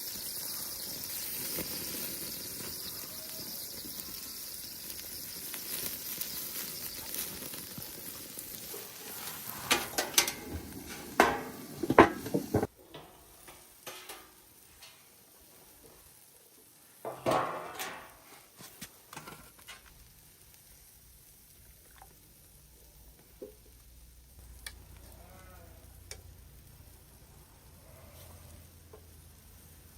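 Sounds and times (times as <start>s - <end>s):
steak sizzling over fire: 0.0s - 29.9s.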